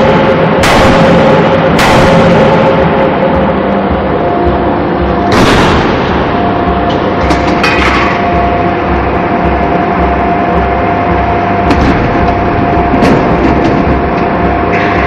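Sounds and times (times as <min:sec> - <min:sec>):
machinery humming and throbbing: 0:00.0 - 0:15.0.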